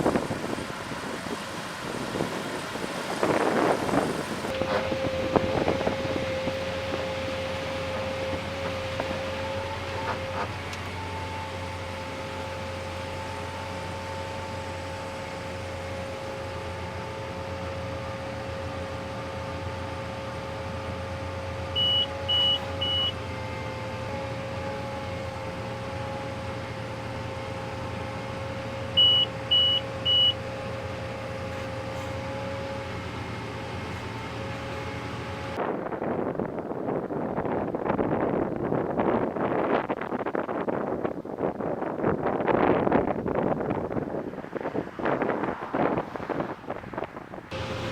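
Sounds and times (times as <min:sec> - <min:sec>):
engine whining: 0:00.0 - 0:35.8, 0:42.4 - 0:47.9.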